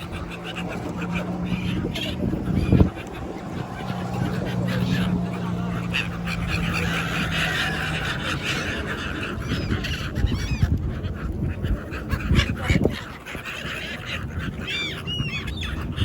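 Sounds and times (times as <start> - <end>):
birds squawking: 0.0 - 16.0.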